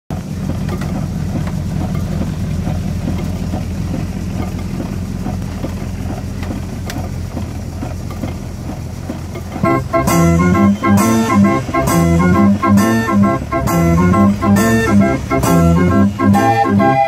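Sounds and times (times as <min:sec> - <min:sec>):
low mechanical hum: 0:00.1 - 0:17.0.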